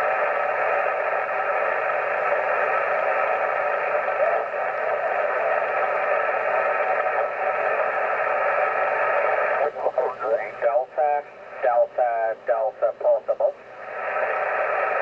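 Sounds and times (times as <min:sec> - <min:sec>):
radio interference hiss: 0:00.0 - 0:15.0.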